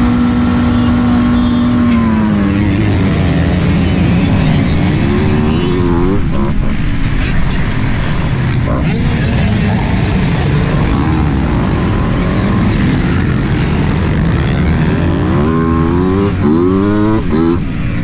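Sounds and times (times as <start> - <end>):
engine revving: 0.0 - 18.0
motocross bike engines rumbling: 0.0 - 18.0.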